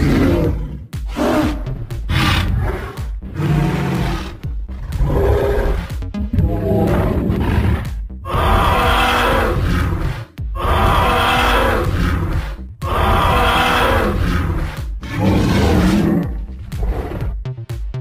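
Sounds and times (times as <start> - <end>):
deep growling dinosaur roars: 0.0 - 17.4
background music: 0.0 - 18.0.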